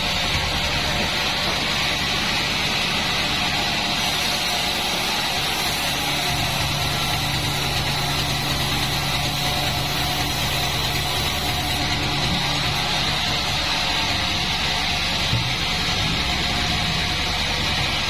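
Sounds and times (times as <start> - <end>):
band saw running: 0.0 - 18.0.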